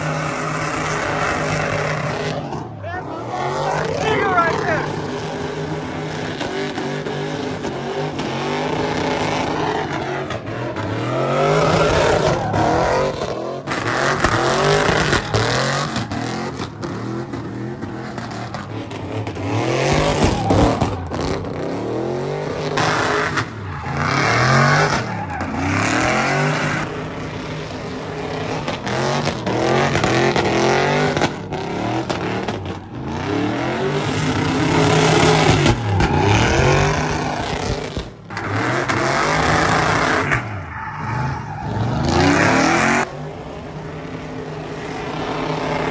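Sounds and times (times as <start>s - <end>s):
tires squealing: 0.0s - 43.2s
truck engine revving: 0.0s - 45.9s.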